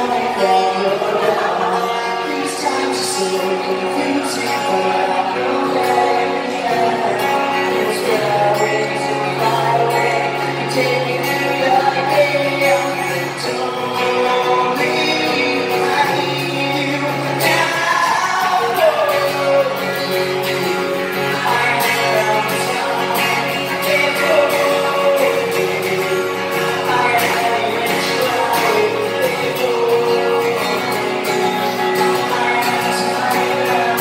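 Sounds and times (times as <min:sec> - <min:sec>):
amplified acoustic guitar: 0:00.0 - 0:34.0
man singing: 0:00.0 - 0:34.0.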